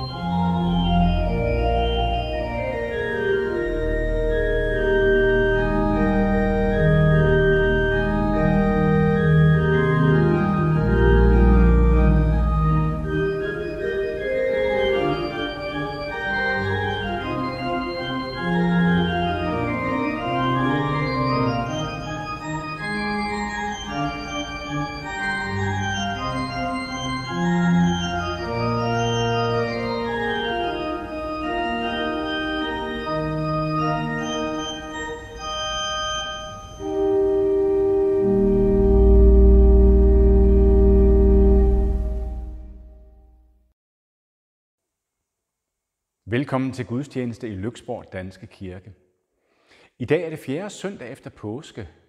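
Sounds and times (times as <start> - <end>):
organ music: 0.0 - 43.4.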